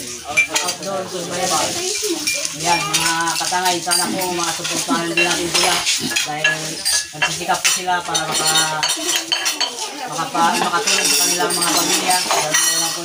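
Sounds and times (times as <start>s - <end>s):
chatter of voices: 0.0s - 13.0s
cutlery and dishes clinking: 0.0s - 13.0s.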